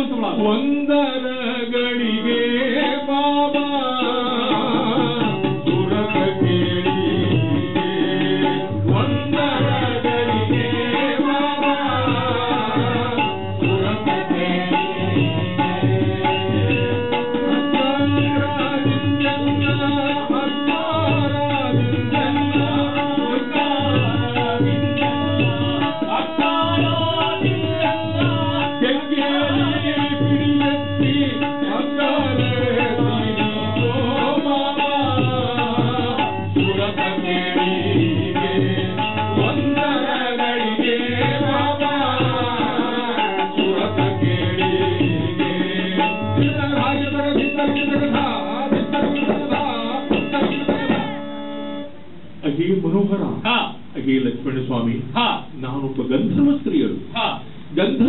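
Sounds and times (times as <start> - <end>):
hand drum rhythm: 4.1 - 51.3.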